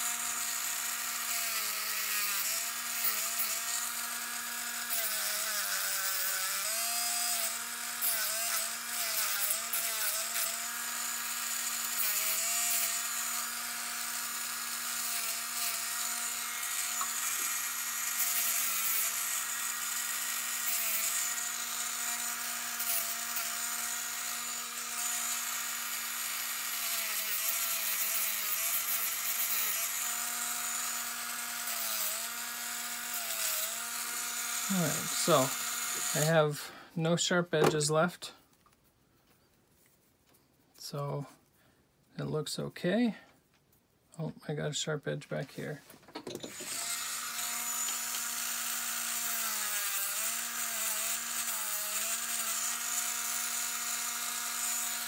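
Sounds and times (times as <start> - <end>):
drill bit grinding metal: 0.0 - 36.7, 46.2 - 55.0
micromotor drill whining: 0.0 - 36.7, 46.2 - 55.0.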